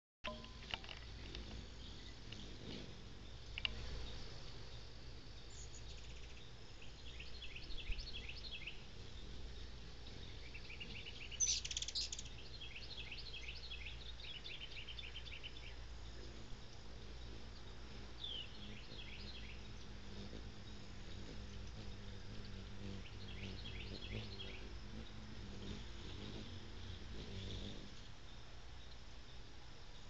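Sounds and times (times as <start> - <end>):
birds chirping: 0.2 - 30.0.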